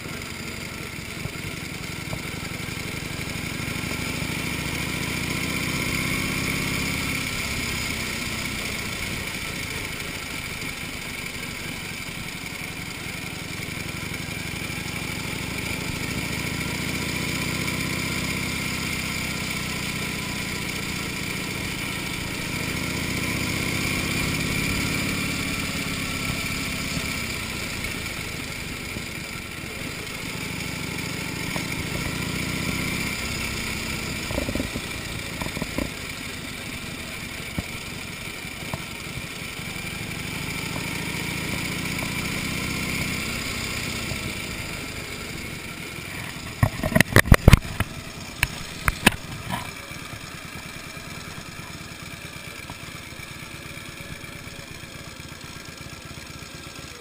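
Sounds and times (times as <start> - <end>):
motorcycle engine pulling: 0.0 - 57.0.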